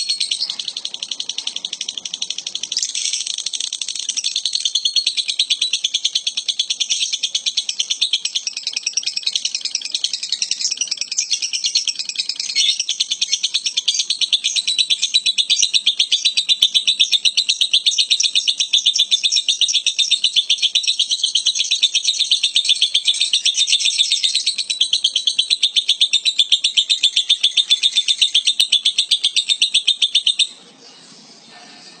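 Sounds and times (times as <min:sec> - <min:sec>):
lovebird chattering trill: 0:00.0 - 0:32.0.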